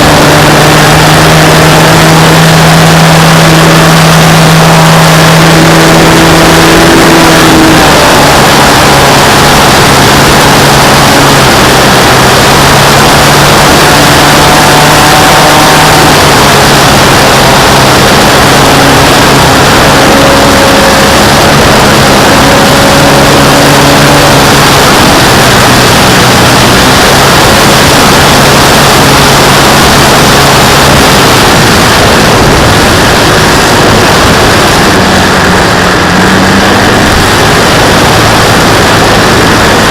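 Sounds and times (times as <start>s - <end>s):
model airplane motor drone: 0.0s - 39.9s
wind rushing across microphone: 0.0s - 39.9s.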